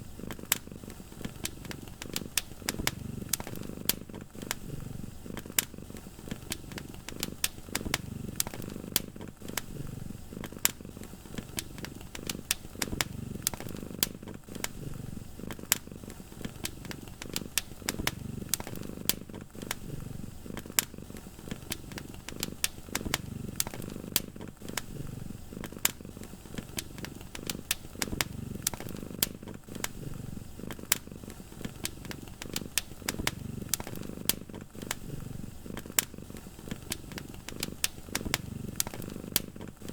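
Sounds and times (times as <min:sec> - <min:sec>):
cat purring: 0:00.0 - 0:39.9
wood fire crackling: 0:00.0 - 0:39.9.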